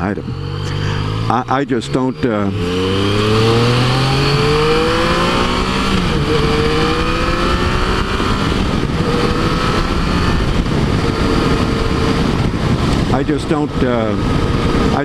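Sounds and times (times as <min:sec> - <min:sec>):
motorcycle engine accelerating: 0:00.0 - 0:15.0
wind rush on microphone: 0:02.5 - 0:15.0.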